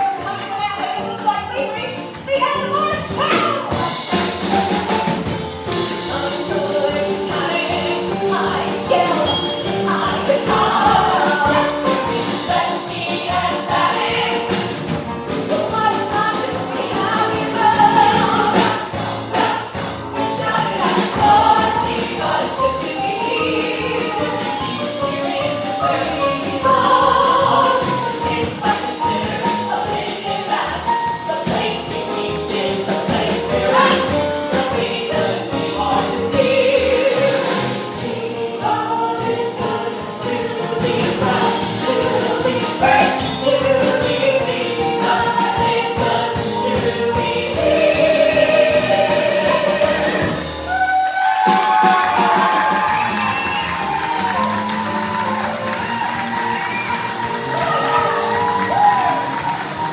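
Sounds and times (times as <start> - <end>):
group of people singing: 0.0 - 59.9.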